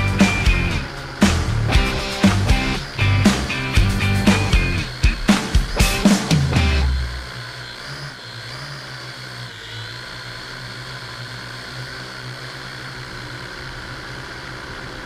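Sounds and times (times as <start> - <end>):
drone propellers whirring: 0.0 - 15.0.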